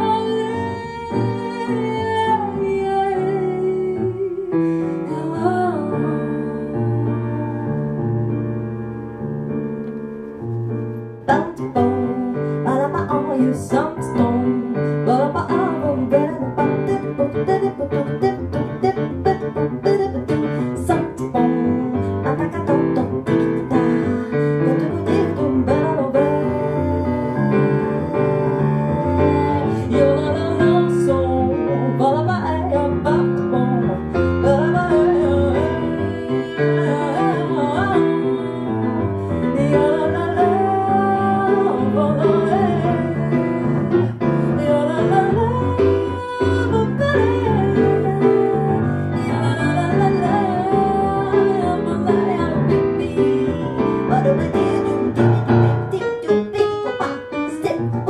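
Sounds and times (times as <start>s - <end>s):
woman singing jazz: 0.0s - 8.7s, 11.2s - 58.0s
grand piano chords: 0.0s - 58.0s.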